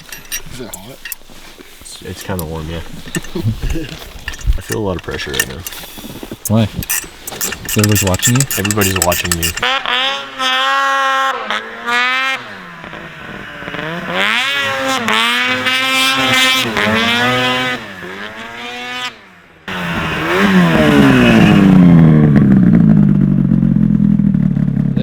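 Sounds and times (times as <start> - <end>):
snowmobile engine revving: 0.0 - 23.8.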